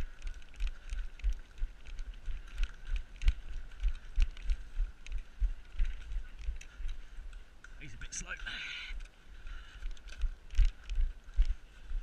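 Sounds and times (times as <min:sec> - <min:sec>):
running footsteps on woodland ground: 0:00.0 - 0:12.0.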